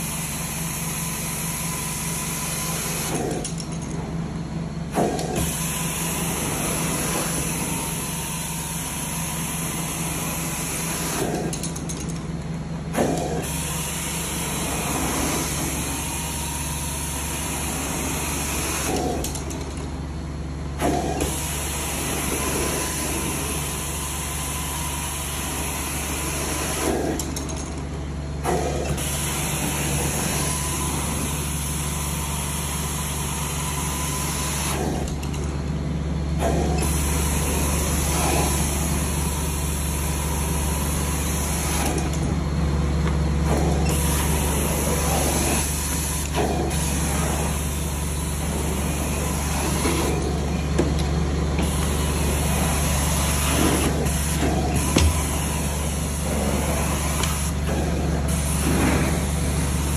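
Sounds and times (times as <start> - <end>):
carpet extractor suction hiss: 0.0 - 3.5, 5.0 - 11.7, 13.0 - 19.4, 20.8 - 27.4, 28.4 - 35.2, 36.4 - 42.2, 43.4 - 59.9.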